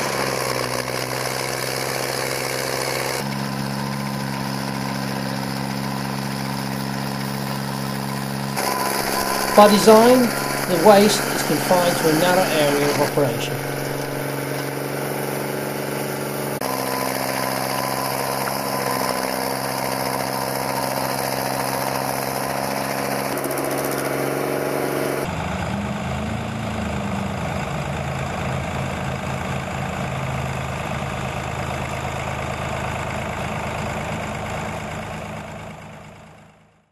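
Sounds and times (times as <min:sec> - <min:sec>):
stump grinder engine running: 0:00.0 - 0:36.6.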